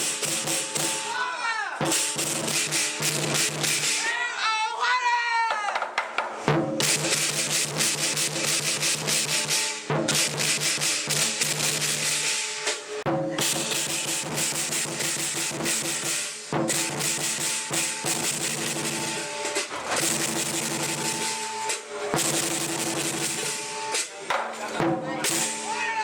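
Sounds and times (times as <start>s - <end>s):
clashing cymbals: 0.0s - 4.2s, 6.4s - 26.0s
drum beaten fast: 0.0s - 4.2s, 5.4s - 26.0s.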